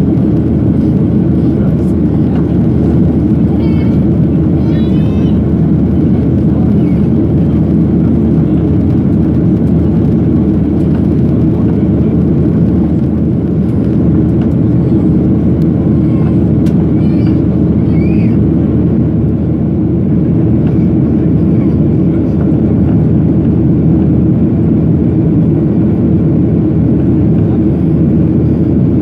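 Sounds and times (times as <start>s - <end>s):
airplane cabin engine noise: 0.0s - 29.0s.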